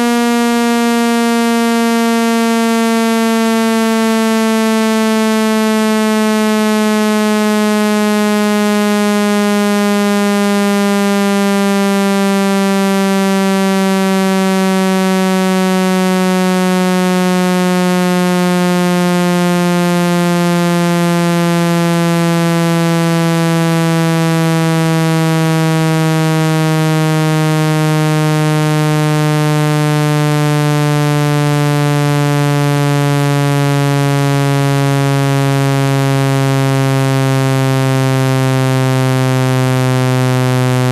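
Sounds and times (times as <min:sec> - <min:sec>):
buzzy electronic tone sweeping downward: 0:00.0 - 0:40.9.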